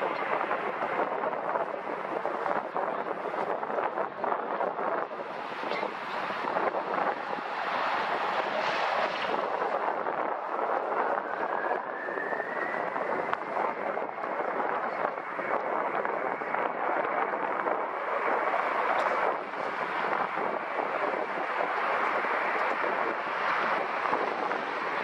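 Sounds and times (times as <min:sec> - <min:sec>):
jet engines whining: 0:00.0 - 0:25.0
wide rushing noise: 0:00.0 - 0:25.0
wind buffeting microphone: 0:00.0 - 0:25.0.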